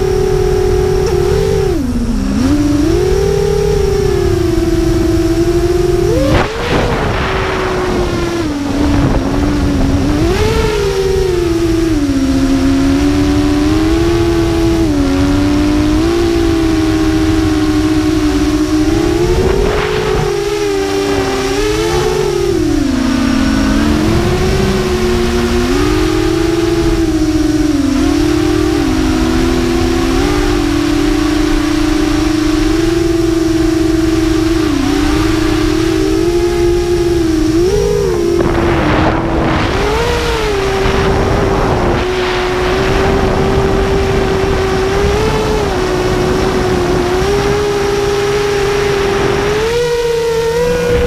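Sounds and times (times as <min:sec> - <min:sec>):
drone propellers whining: 0:00.0 - 0:51.0
wind rush on microphone: 0:00.0 - 0:51.0.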